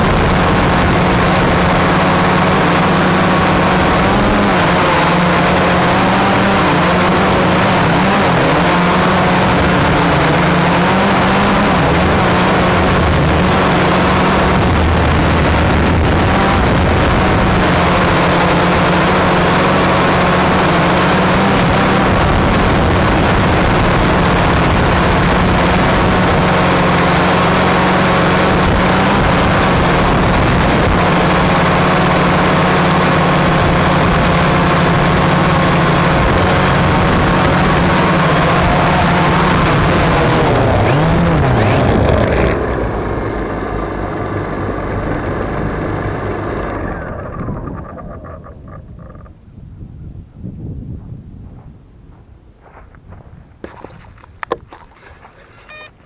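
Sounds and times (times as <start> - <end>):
drone propellers humming: 0.0 - 50.0.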